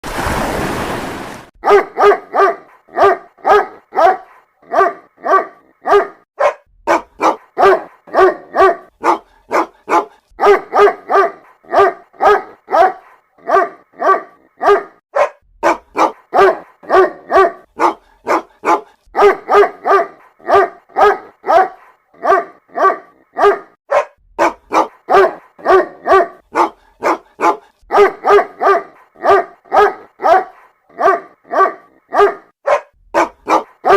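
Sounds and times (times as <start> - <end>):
dog barking: 1.6 - 33.9.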